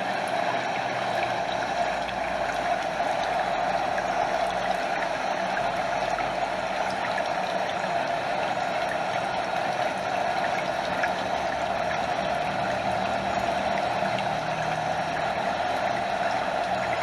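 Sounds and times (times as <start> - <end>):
water flowing over small waterfall: 0.0 - 17.0.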